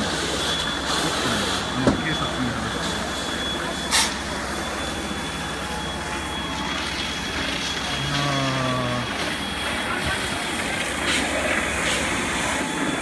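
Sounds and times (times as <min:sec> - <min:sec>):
high whine: 0:00.0 - 0:13.0
vehicle engines rumbling: 0:00.0 - 0:13.0.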